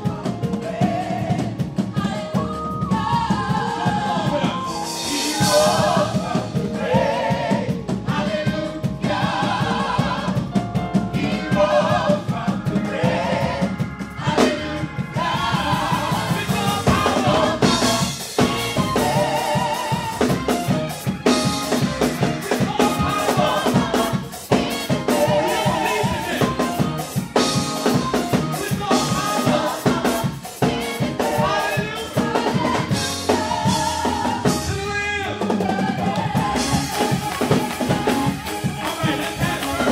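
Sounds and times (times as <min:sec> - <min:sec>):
drum kit beat: 0:00.0 - 0:39.9
keyboards: 0:00.0 - 0:39.9
vocal group singing: 0:00.0 - 0:39.9.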